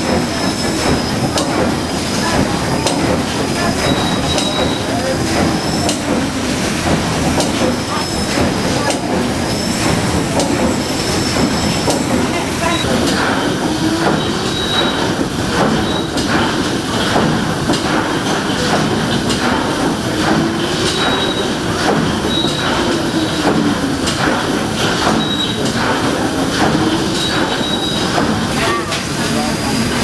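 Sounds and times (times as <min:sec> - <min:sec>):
steam engine clattering: 0:00.0 - 0:30.0.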